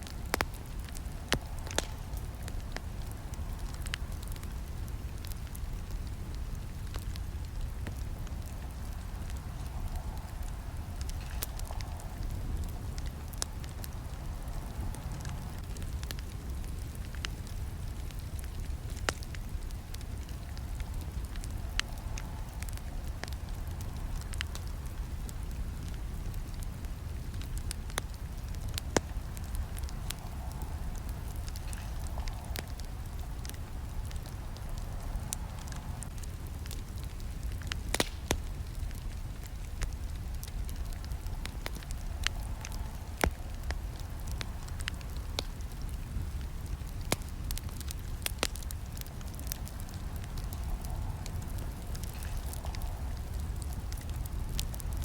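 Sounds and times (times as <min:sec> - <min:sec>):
campfire flames rumbling: 0:00.0 - 0:55.0
fire crackling and popping: 0:00.0 - 0:55.0.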